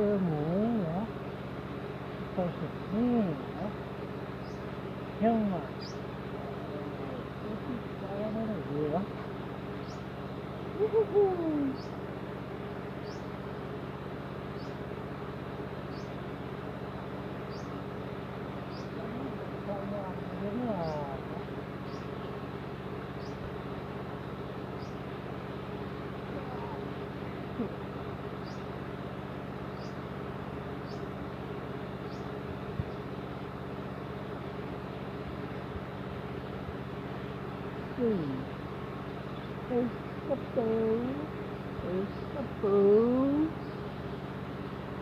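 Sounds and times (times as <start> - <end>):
pond aerator pump humming: 0.0 - 45.0.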